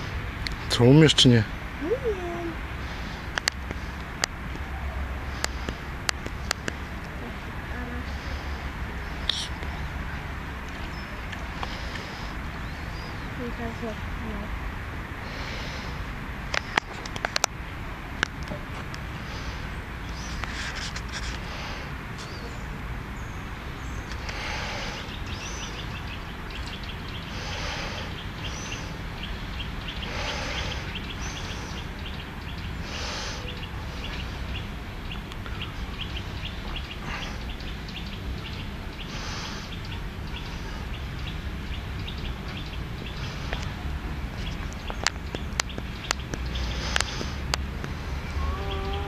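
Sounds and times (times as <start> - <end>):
birds chirping: 0.0 - 49.0
low outdoor rumble: 0.0 - 49.0.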